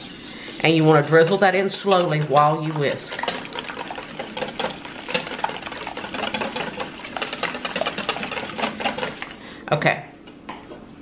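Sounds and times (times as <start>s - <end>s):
whisk beating in metal bowl: 0.0s - 9.4s.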